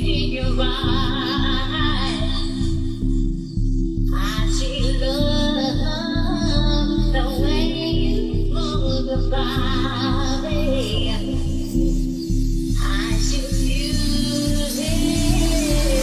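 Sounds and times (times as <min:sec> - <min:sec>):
woman singing wordlessly: 0:00.0 - 0:02.9, 0:04.1 - 0:11.9, 0:12.8 - 0:16.0
pop music with beat and bass: 0:00.0 - 0:16.0.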